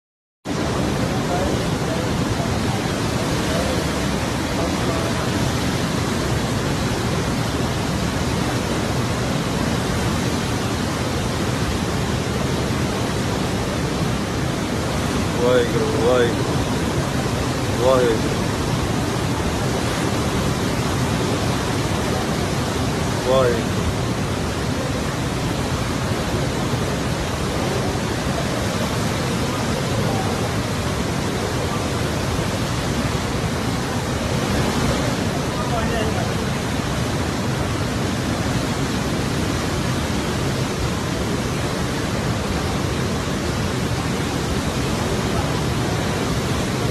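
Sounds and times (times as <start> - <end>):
floodwater rushing: 0.5 - 46.9.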